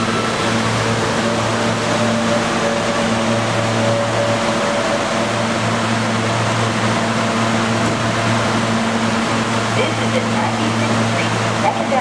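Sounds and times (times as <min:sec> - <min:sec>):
high-pitched whine: 0:00.0 - 0:12.0
subway train pulling in: 0:00.0 - 0:12.0.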